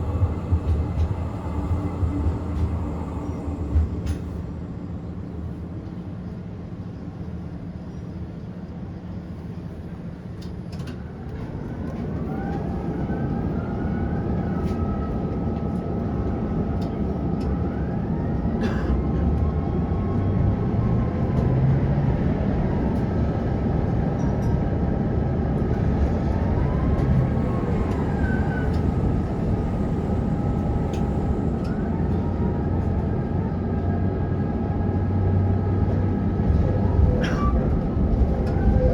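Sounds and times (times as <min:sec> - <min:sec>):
wheels rumbling on rails: 0:00.0 - 0:38.9.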